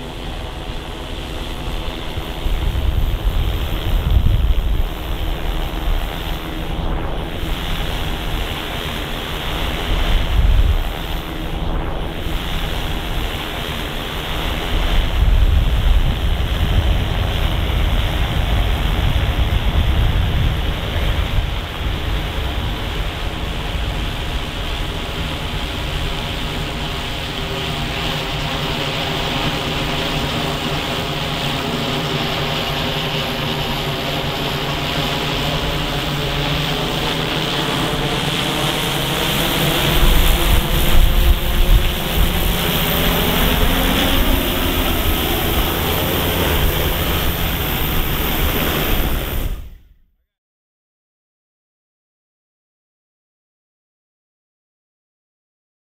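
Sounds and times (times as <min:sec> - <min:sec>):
wind buffeting microphone: 0:00.0 - 0:49.9
drone propellers humming: 0:00.0 - 0:50.0.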